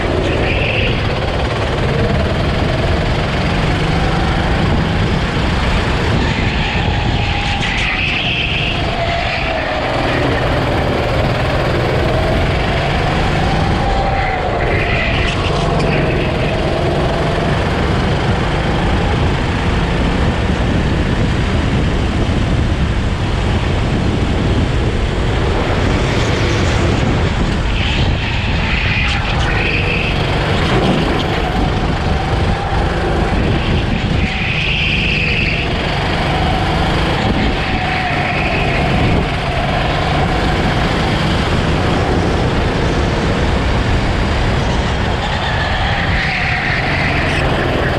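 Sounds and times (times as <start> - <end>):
go-kart engine running hard: 0.0 - 47.9.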